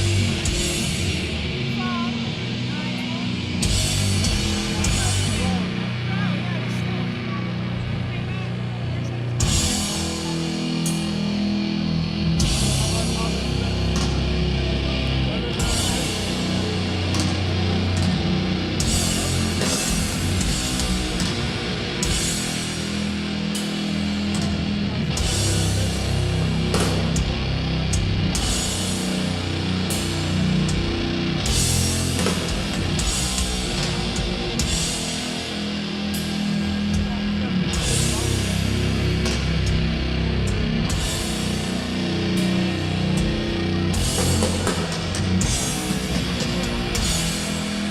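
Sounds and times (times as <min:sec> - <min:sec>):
distorted guitars: 0:00.0 - 0:47.9
drums: 0:00.0 - 0:47.9
live doom metal band: 0:00.0 - 0:47.9.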